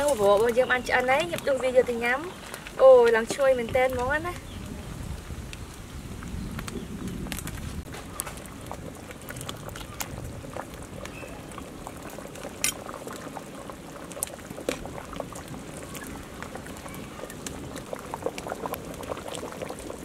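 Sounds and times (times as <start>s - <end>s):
porridge boiling and bubbling: 0.0s - 20.0s.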